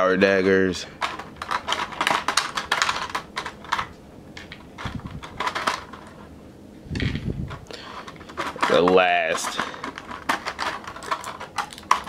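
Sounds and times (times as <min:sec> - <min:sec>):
plastic parts clicking and rattling: 0:01.0 - 0:06.3, 0:06.9 - 0:12.0.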